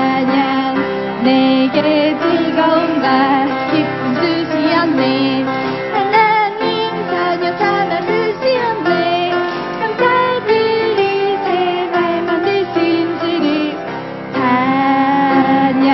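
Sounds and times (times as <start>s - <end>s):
children's worship song singing: 0.0s - 15.9s.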